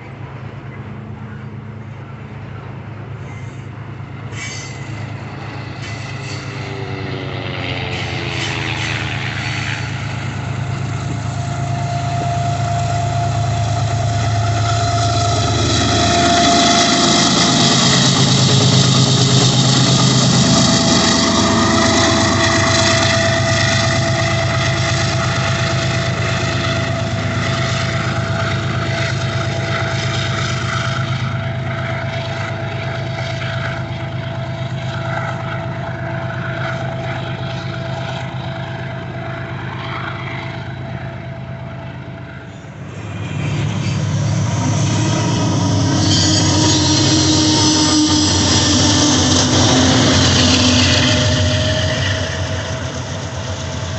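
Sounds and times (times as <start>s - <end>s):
diesel locomotive engine running: 0.0s - 53.9s
high squeal: 3.2s - 53.9s.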